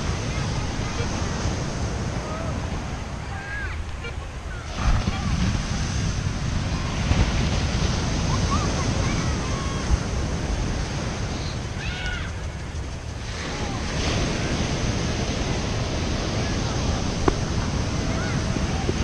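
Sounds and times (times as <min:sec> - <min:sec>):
ocean surf breaking on sand: 0:00.0 - 0:19.0
wind rumbling on microphone: 0:00.0 - 0:19.0.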